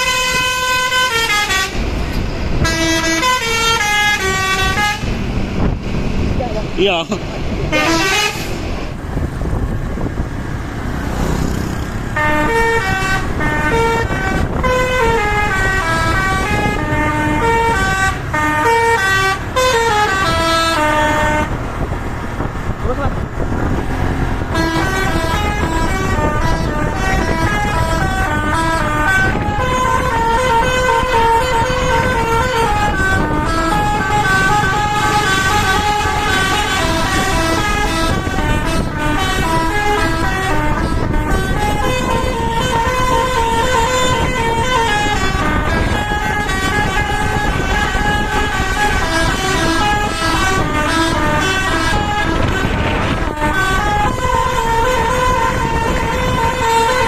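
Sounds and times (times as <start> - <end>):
multi-tone bus horn melody: 0.0 - 5.8, 7.6 - 10.2, 11.0 - 22.5, 23.1 - 57.0
bus engine rumbling: 0.0 - 57.0.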